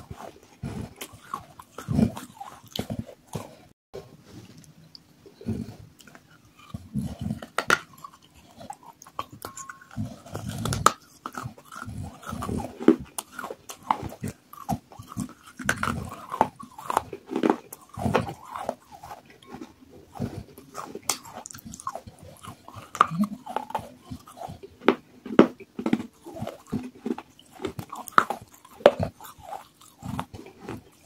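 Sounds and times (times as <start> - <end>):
wet chewing: 0.0 - 3.8, 4.6 - 31.0.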